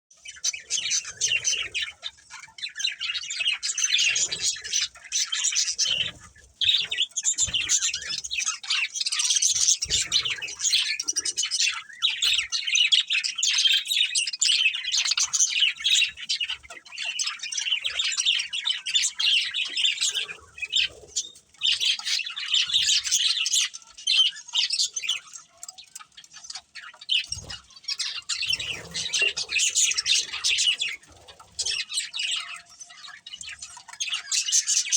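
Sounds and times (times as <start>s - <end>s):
budgerigars chirping: 0.2s - 34.9s.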